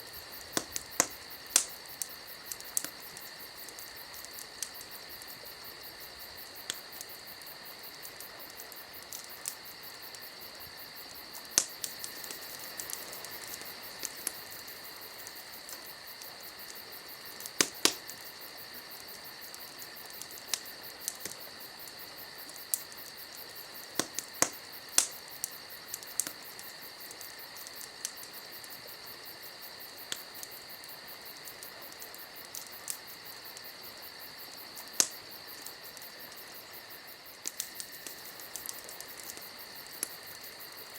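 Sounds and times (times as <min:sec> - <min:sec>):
campfire wood crackling and popping: 0:00.0 - 0:40.9.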